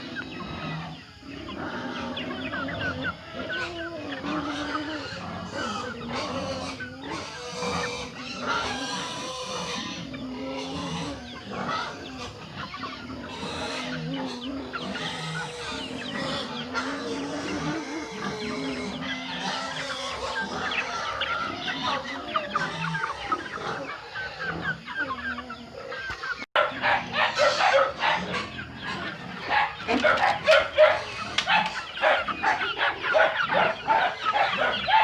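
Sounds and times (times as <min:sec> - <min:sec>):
chickens clucking and calling: 0:00.0 - 0:35.0.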